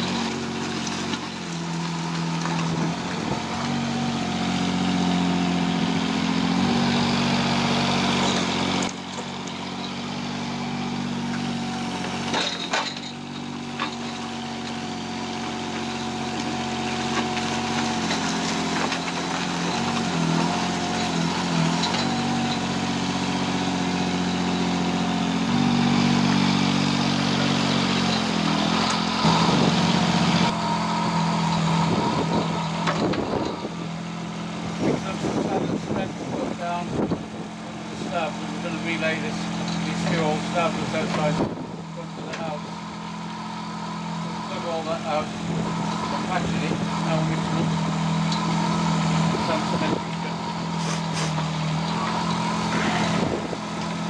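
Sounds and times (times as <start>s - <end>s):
small diesel engine running: 0.0s - 54.0s.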